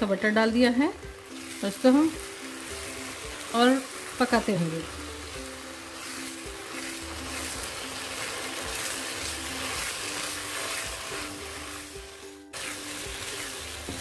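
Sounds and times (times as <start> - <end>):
food sizzling in a pan: 0.0 - 14.0
quiet background music: 0.0 - 14.0
wooden spatula stirring: 1.2 - 14.0.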